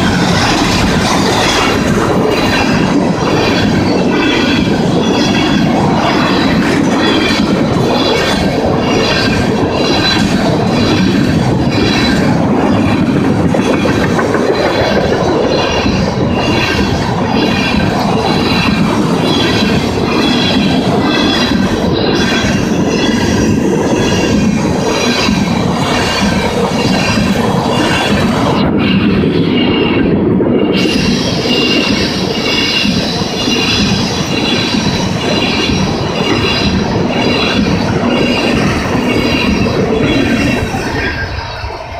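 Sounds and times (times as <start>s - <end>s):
crossing bell ringing: 0.0s - 13.3s, 14.9s - 41.5s
wheel squeal: 0.0s - 41.8s
train wheels clacking over rails: 0.0s - 41.9s.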